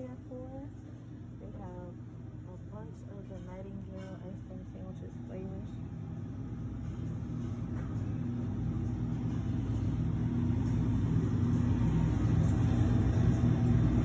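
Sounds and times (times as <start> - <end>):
refrigeration unit humming: 0.0 - 14.0.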